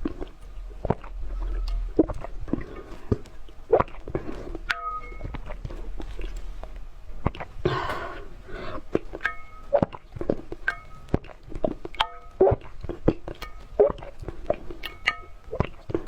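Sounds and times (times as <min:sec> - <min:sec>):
animal chewing wetly: 0:00.0 - 0:16.0.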